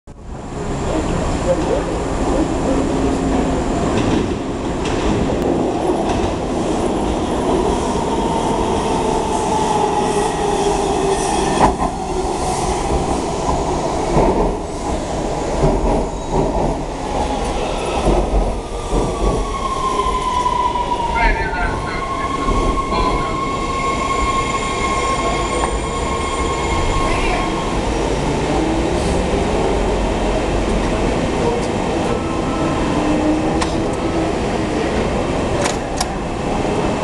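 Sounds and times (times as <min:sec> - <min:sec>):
train wheels rumbling and squealing: 0:00.6 - 0:37.0.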